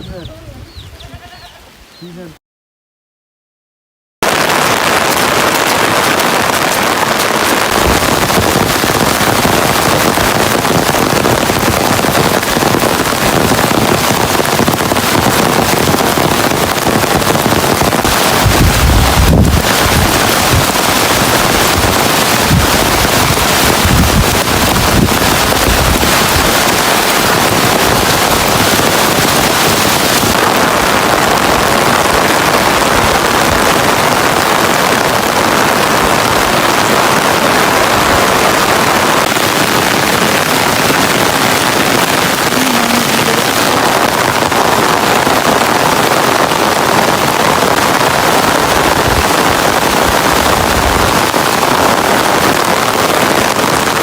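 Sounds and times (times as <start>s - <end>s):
wind buffeting microphone: 0.0s - 2.3s, 4.8s - 46.0s, 46.9s - 53.5s
heavy rain falling: 4.2s - 54.0s.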